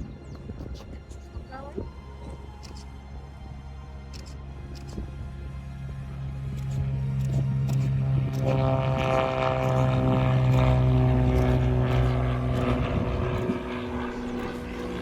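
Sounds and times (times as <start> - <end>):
light aircraft engine and propeller drone: 0.0 - 15.0.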